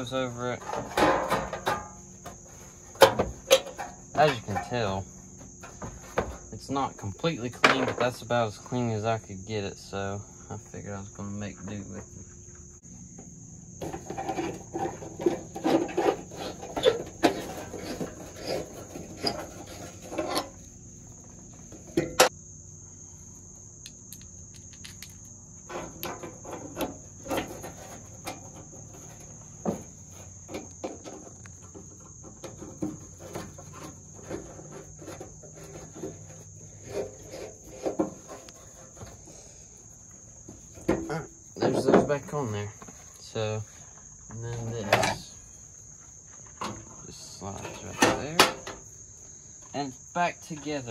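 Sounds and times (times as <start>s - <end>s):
high insect drone: 0.0s - 50.9s.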